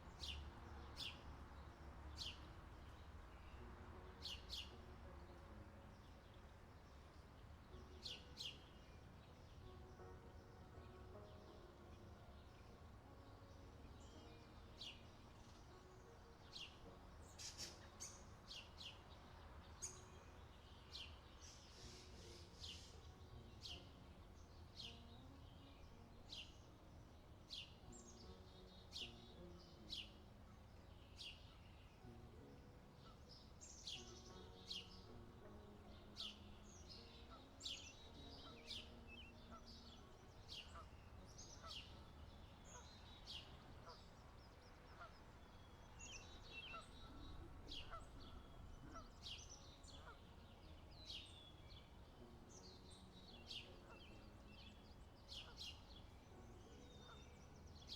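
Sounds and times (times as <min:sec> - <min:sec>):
birds chirping: 0:00.0 - 0:57.9.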